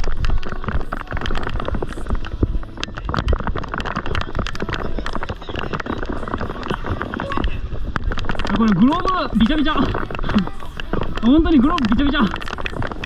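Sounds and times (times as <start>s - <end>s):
rain hitting close: 0.0s - 13.0s
wind buffeting microphone: 0.0s - 13.0s.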